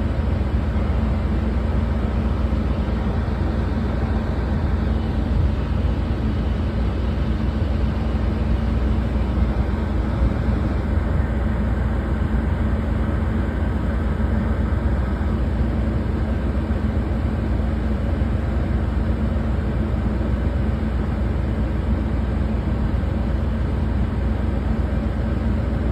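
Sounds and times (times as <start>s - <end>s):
ship engine rumbling: 0.0s - 25.9s.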